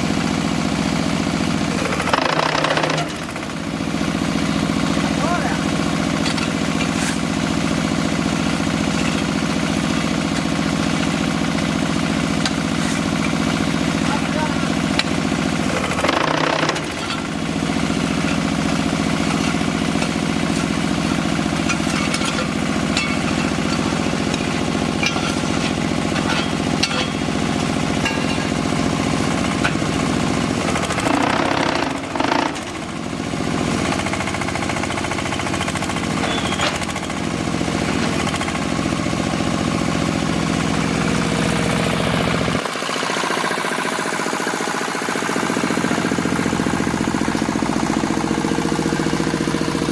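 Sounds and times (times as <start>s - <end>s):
diesel engine drone: 0.0s - 49.9s
machine knocking and rattling: 0.8s - 49.9s.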